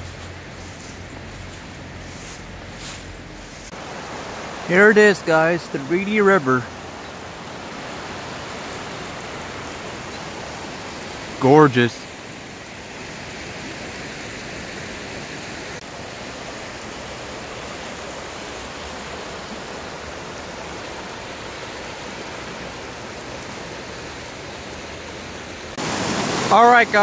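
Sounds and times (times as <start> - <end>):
river rushing over rapids: 0.0 - 27.0
whitewater cascade: 0.0 - 27.0.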